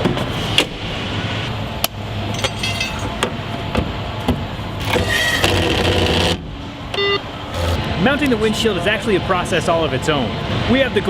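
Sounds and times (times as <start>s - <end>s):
factory low hum: 0.0s - 11.0s.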